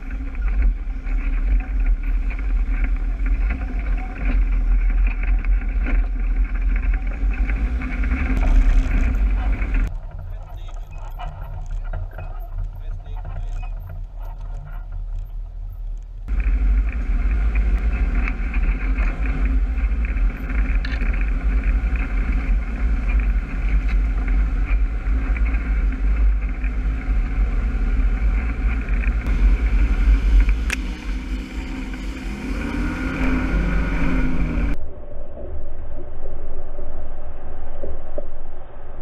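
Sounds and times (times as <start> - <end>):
utility vehicle engine driving: 0.0 - 36.4.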